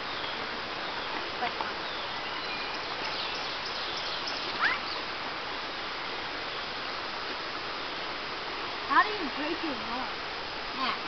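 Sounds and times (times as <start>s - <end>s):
creek flowing over rocks: 0.0s - 11.0s.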